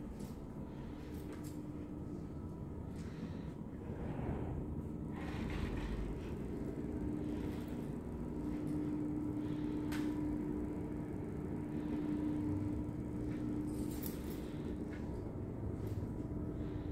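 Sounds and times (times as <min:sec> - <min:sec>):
constant hum: 0:00.0 - 0:16.9
steady low rumble: 0:00.0 - 0:16.9.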